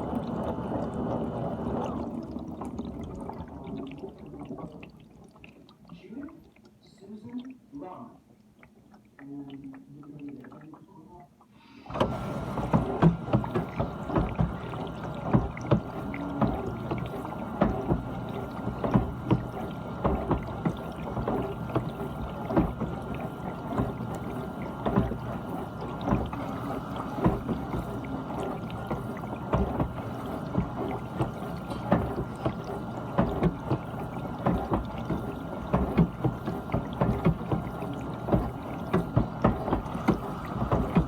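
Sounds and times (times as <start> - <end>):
water spraying inside dishwasher: 0.0 - 8.0, 11.9 - 41.0
dishwasher motor hum: 0.0 - 41.0.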